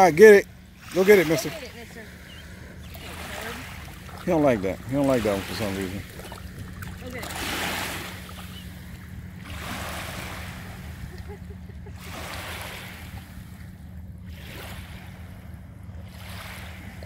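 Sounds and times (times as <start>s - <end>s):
waves lapping on sandy shore: 0.0s - 17.0s.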